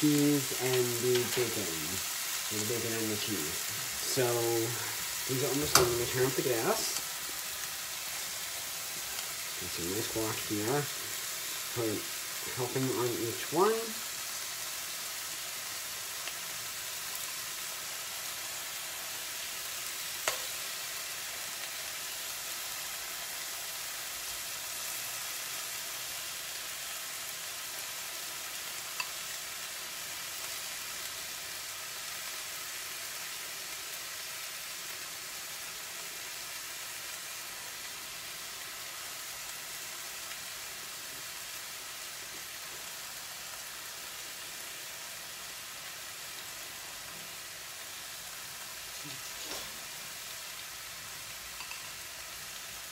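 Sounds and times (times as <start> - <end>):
chicken sizzling in a skillet: 0.0 - 52.9.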